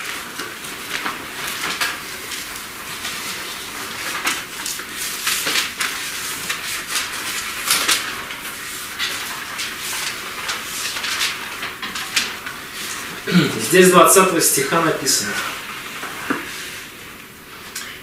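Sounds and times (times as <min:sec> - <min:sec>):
rustling at a lectern: 0:00.0 - 0:18.0.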